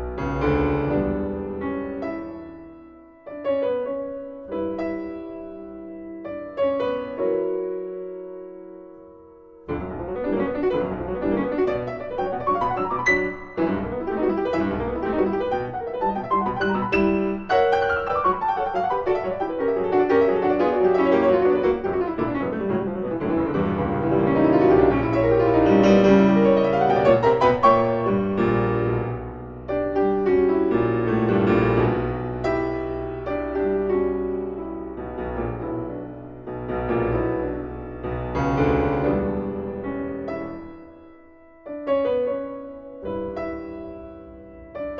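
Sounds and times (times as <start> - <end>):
solo piano music: 0.0 - 44.9.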